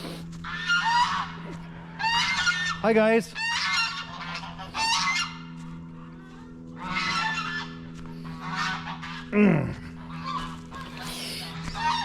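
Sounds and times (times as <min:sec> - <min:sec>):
geese honking: 0:00.0 - 0:12.0
steady low hum: 0:00.0 - 0:12.0.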